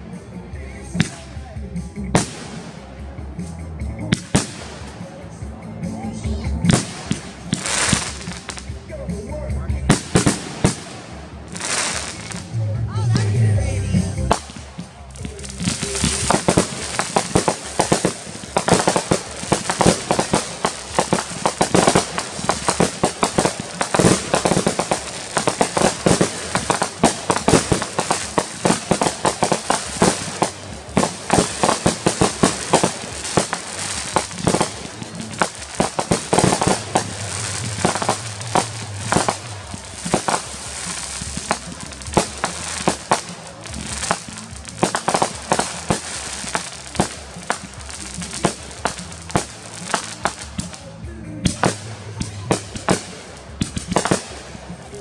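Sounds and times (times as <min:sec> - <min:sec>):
fireworks banging: 0:00.0 - 0:55.0
fireworks crackling: 0:00.0 - 0:55.0.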